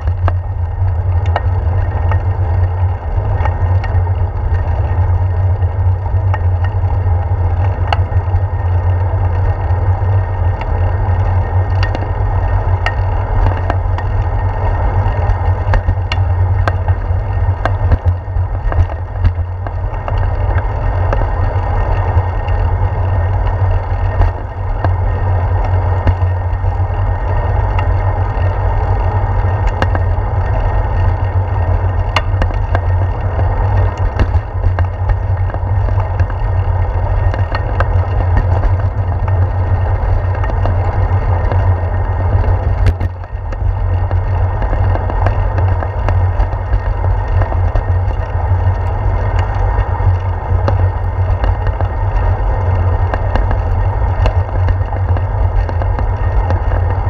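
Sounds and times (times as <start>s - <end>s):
bicycle rolling rumble: 0.0s - 57.0s
sharp clicks and knocks: 0.0s - 57.0s
wind: 0.0s - 57.0s.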